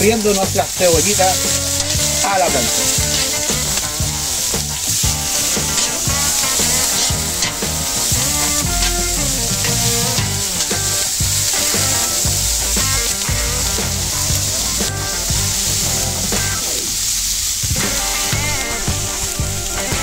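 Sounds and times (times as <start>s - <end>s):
background music: 0.0s - 20.0s
onions sizzling in oil: 0.0s - 20.0s.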